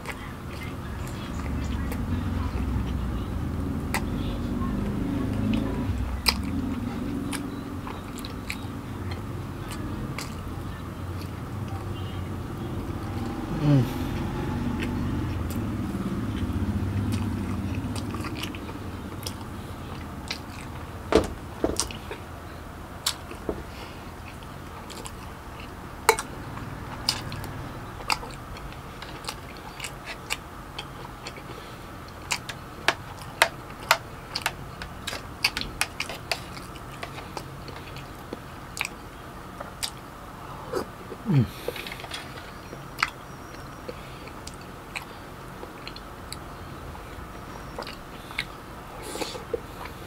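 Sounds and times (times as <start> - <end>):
chewing and biting food: 0.0 - 50.0.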